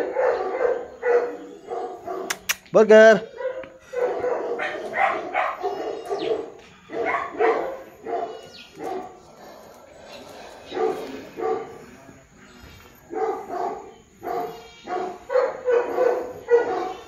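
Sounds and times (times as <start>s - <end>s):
dog barking: 0.0s - 2.5s, 3.2s - 9.5s, 10.6s - 11.9s, 13.1s - 17.0s.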